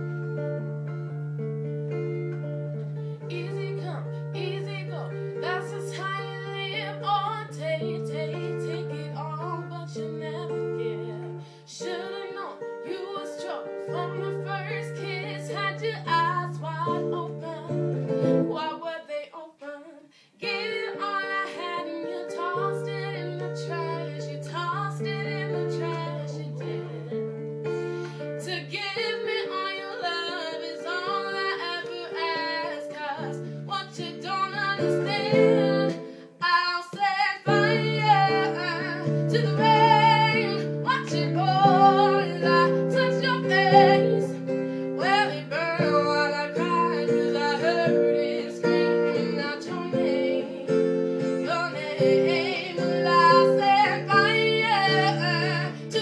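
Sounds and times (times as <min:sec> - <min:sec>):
woman singing: 0:03.2 - 0:56.0.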